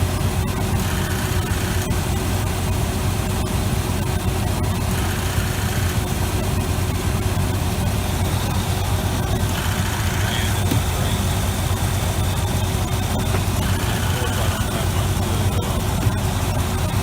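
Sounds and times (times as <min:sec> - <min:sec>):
faint steady whine: 0:00.0 - 0:17.0
truck engine idling: 0:00.0 - 0:17.0.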